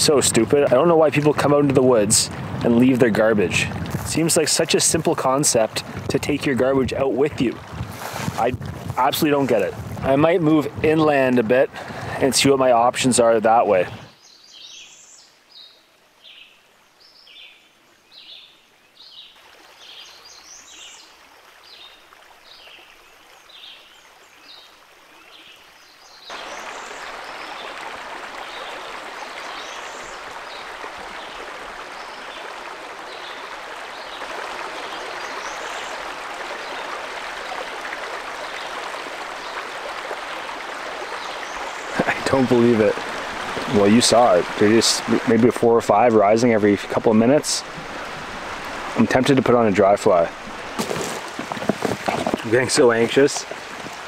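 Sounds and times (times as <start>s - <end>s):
running water: 0.0s - 14.2s, 19.3s - 54.0s.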